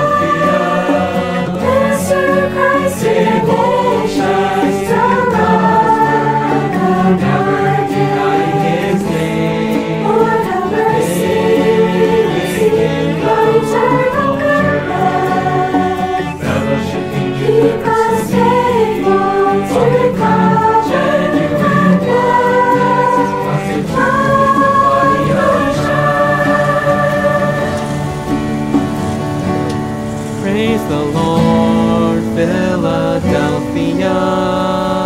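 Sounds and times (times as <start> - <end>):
choir singing a hymn: 0.0 - 35.0
instrumental accompaniment: 0.0 - 35.0.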